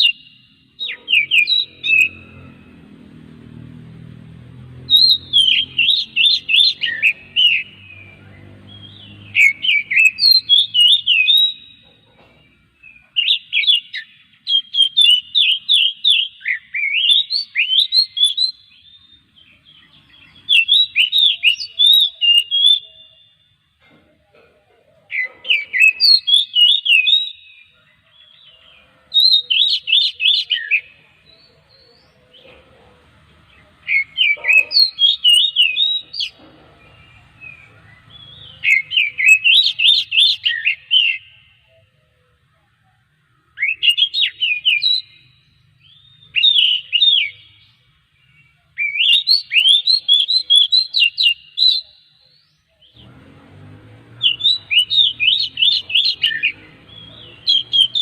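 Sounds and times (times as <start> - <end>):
bird singing whistled notes: 0.0 - 2.8, 4.8 - 23.6, 25.2 - 32.2, 33.6 - 41.9, 43.4 - 53.0, 54.0 - 58.0.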